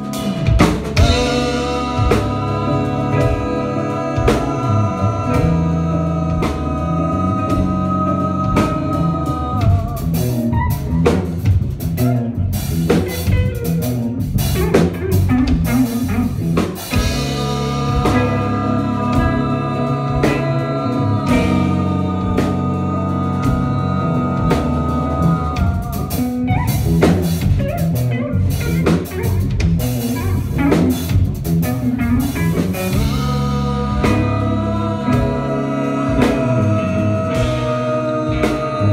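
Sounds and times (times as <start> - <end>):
live band playing loud: 0.0 - 38.9.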